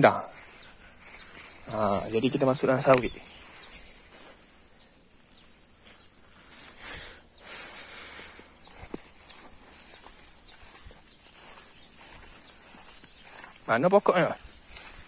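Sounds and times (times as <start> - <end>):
footsteps through grass: 0.0 - 15.0
high-pitched insect drone: 0.0 - 15.0.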